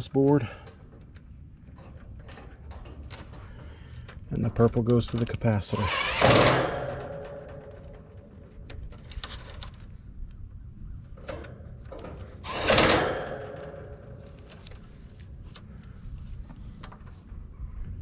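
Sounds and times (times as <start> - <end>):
wires rustling and clicking: 0.0 - 10.4, 11.0 - 17.3.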